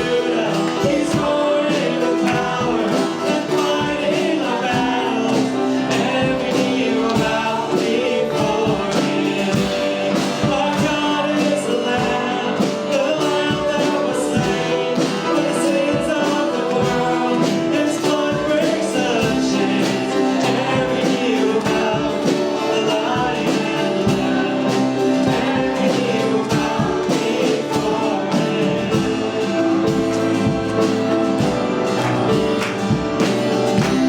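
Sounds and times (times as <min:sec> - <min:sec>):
guitar and band accompaniment: 0:00.0 - 0:34.0
voices singing: 0:00.0 - 0:34.0.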